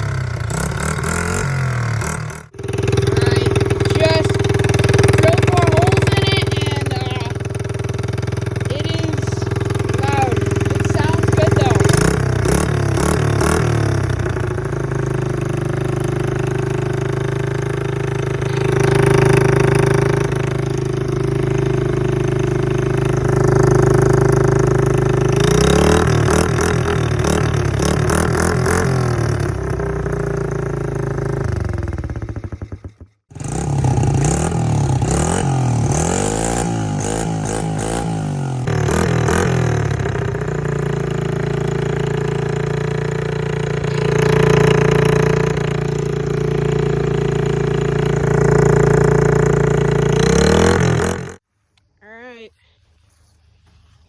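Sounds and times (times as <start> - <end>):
motorcycle engine revving: 0.0 - 51.5.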